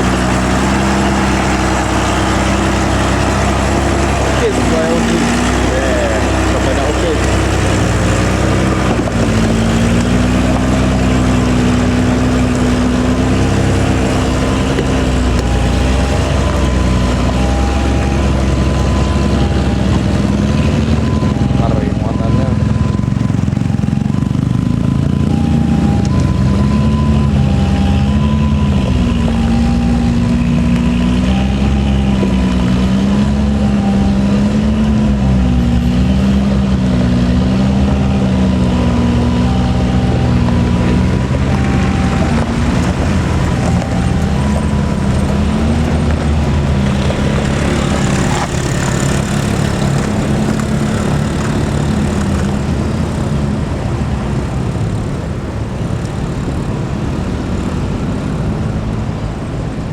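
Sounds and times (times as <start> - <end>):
two-tone beeping: 0.0 - 52.8
truck engine running: 0.0 - 59.9.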